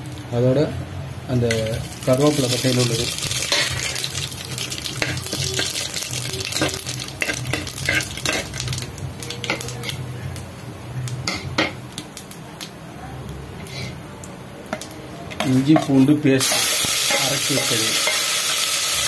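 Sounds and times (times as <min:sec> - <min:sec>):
spices sizzling in hot oil: 0:00.0 - 0:12.7, 0:14.7 - 0:19.0.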